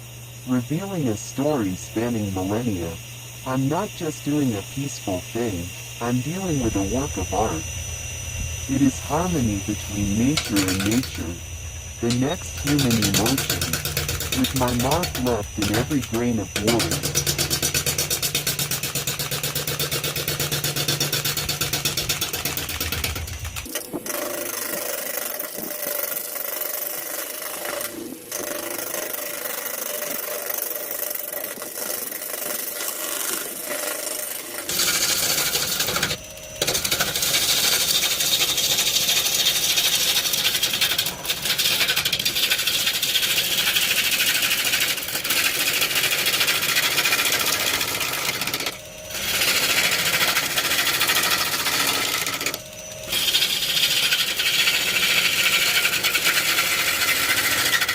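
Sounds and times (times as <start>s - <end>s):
power tool cutting wood: 0.0s - 57.9s.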